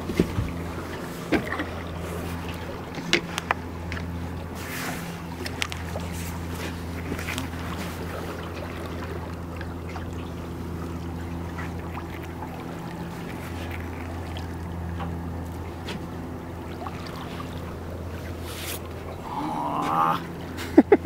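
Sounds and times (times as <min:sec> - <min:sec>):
water splashing: 0:00.0 - 0:20.6
boat motor idling: 0:00.0 - 0:21.0.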